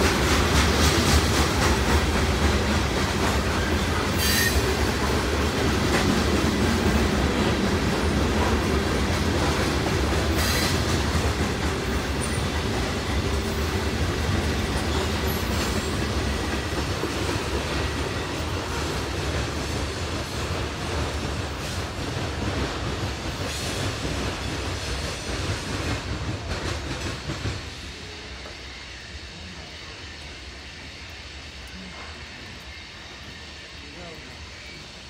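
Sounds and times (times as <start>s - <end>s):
train wheels clacking over joints: 0.0s - 35.0s.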